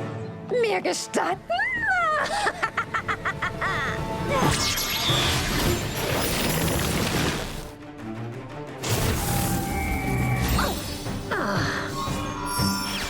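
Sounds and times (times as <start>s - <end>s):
dramatic cartoon music: 0.0s - 13.0s.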